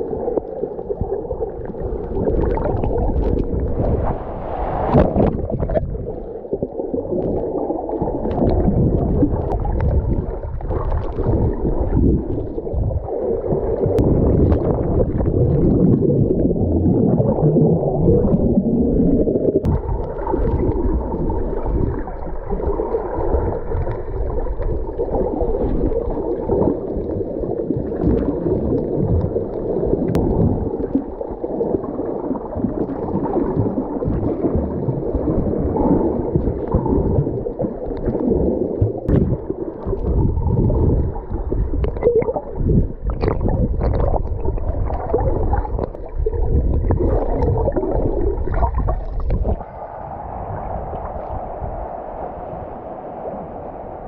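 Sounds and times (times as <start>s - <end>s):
bubbles: 0.0s - 50.0s
muffled underwater water churning: 0.0s - 54.0s.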